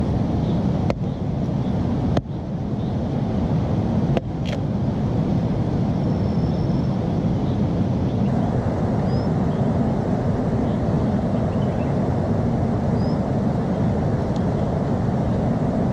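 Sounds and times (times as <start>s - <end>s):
low rushing noise: 0.0s - 15.9s.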